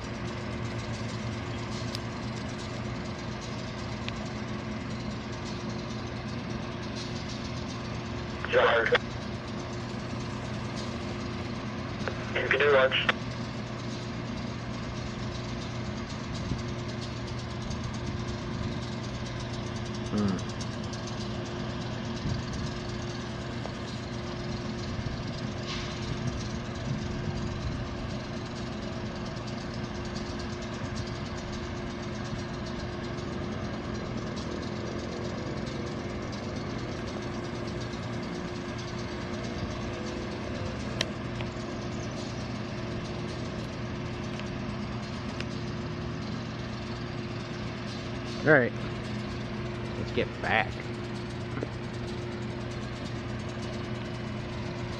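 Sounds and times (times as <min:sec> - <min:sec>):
locomotive engines idling: 0:00.0 - 0:54.9.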